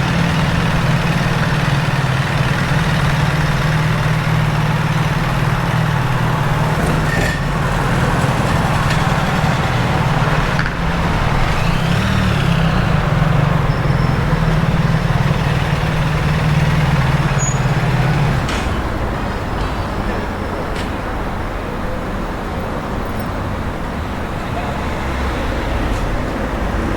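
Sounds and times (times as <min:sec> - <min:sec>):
vehicle engine idling: 0:00.0 - 0:22.1.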